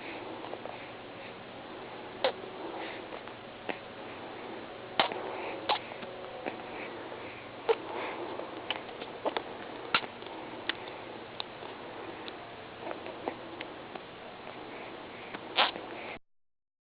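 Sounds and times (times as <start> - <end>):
snuffling breath: 0.0 - 13.7, 14.4 - 16.2.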